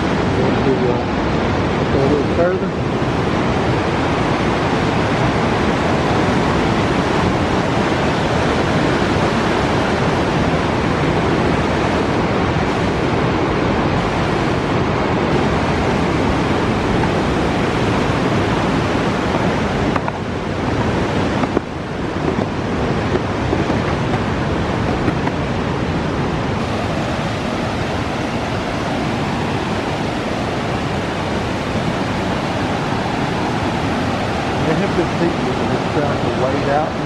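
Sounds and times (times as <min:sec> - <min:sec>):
river water rushing: 0:00.0 - 0:37.0.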